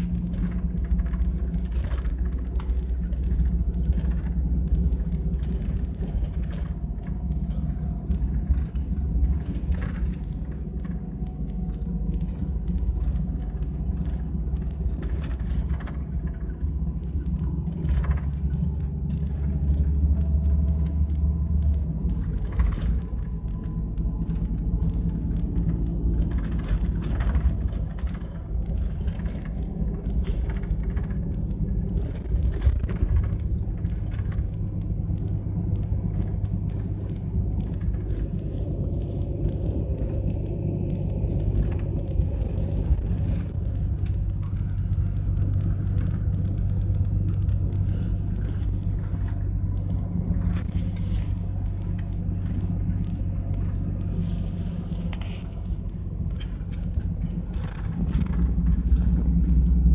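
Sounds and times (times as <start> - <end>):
bus engine and road rumble: 0.0 - 59.9
knocks and rattles: 0.0 - 59.9.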